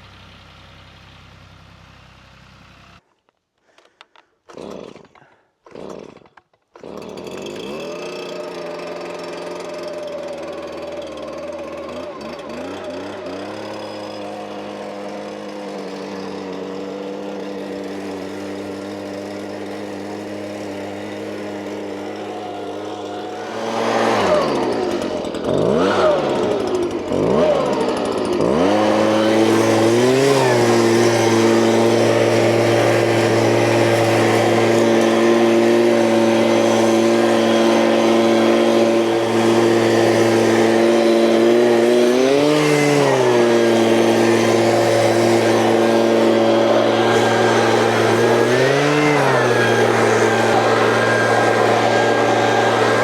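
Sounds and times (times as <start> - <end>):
engine revving: 6.9 - 53.0.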